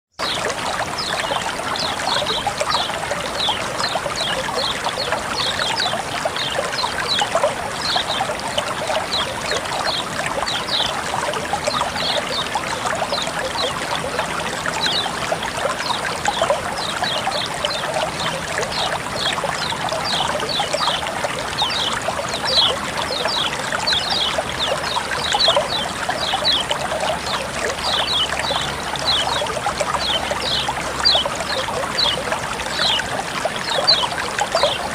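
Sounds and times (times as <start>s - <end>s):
high water plinks: 0.2s - 34.9s
water trickling and splashing: 0.2s - 34.9s.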